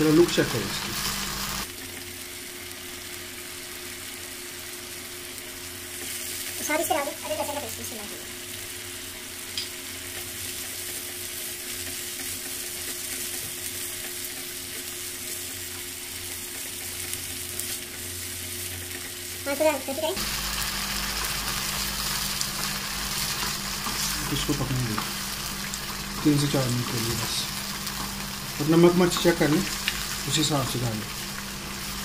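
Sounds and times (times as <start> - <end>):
chicken sizzling in pan: 0.0 - 32.0.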